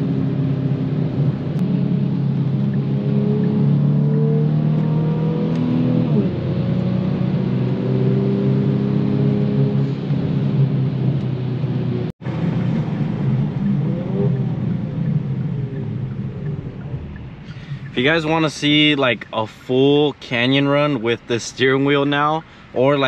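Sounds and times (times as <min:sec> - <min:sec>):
car engine accelerating: 0:00.0 - 0:19.5.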